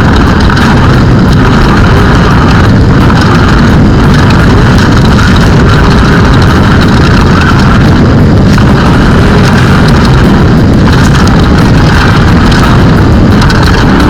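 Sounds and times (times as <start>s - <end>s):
race car engine running hard: 0.0s - 14.0s
rattling and knocking: 0.0s - 14.0s.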